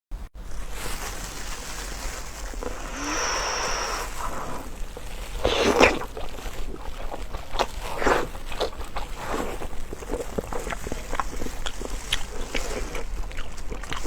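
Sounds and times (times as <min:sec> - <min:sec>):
wet chewing and smacking: 0:01.7 - 0:14.0.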